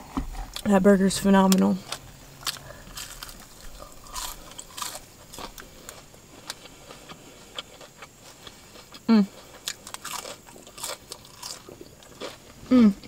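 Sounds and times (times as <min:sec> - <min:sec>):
person chewing crunchy food: 0:00.0 - 0:00.7, 0:01.4 - 0:13.0.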